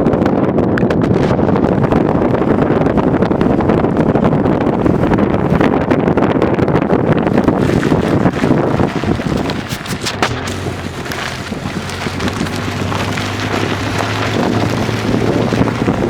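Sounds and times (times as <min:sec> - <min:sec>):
wind buffeting microphone: 0:00.0 - 0:16.0
vehicle engine humming: 0:01.1 - 0:16.0.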